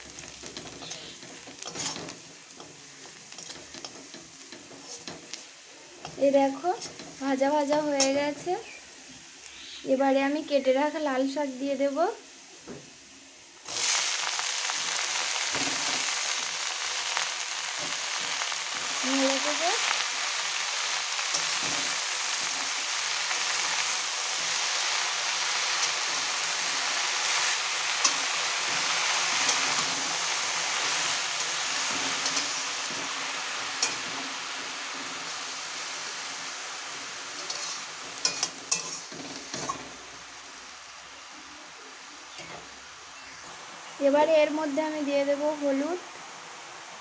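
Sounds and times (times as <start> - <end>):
leaves sizzling in hot oil: 0.0 - 47.0.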